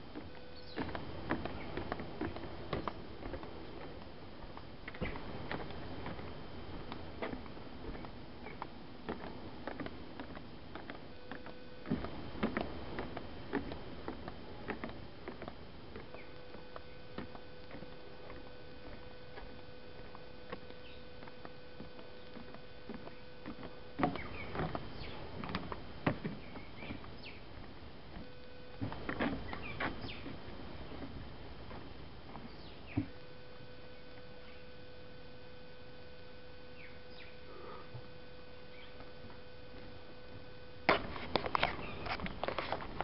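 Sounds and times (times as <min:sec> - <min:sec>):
footsteps on wooden boards: 0:00.0 - 0:34.5, 0:38.7 - 0:43.0.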